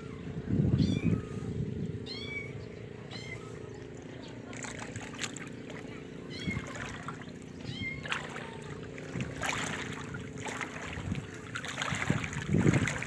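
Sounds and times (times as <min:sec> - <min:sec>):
small waves lapping: 0:00.0 - 0:13.0
wind buffeting microphone: 0:00.0 - 0:13.0.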